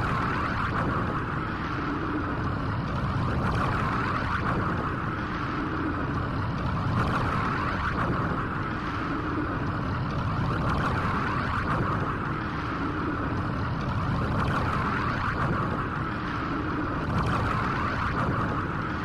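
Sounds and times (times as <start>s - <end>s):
rushing energy noise: 0.0s - 19.0s.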